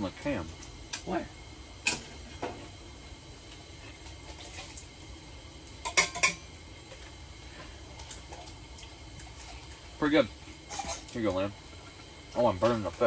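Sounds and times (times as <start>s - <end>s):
fish frying hiss: 0.0s - 13.0s.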